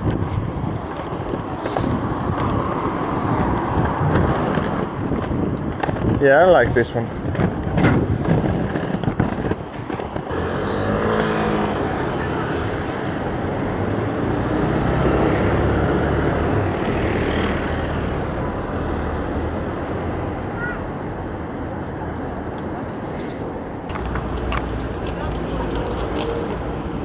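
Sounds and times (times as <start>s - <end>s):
skate wheels rolling on pavement: 0.0s - 27.0s
street traffic: 0.0s - 27.0s.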